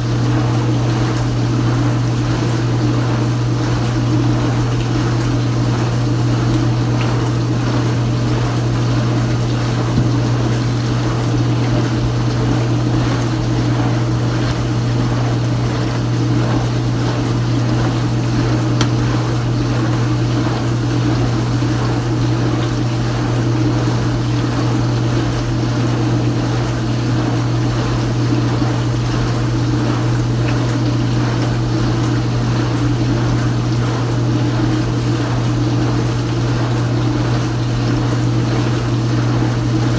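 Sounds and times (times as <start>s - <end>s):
dishwasher pump motor humming: 0.0s - 39.9s
water spraying inside dishwasher: 0.0s - 39.9s.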